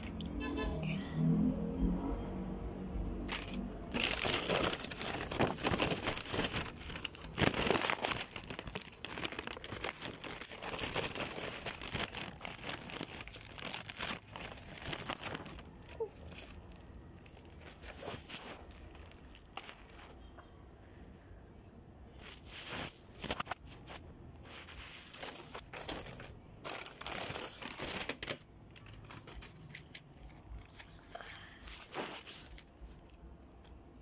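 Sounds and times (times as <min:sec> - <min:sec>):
plastic packaging crinkling: 0:03.2 - 0:20.3, 0:22.2 - 0:33.3.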